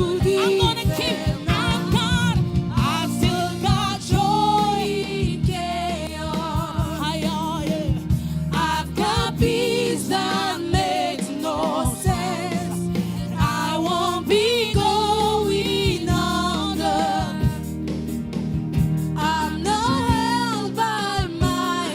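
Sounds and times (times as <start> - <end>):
band with drums: 0.0 - 21.9
gospel choir singing: 0.0 - 21.9.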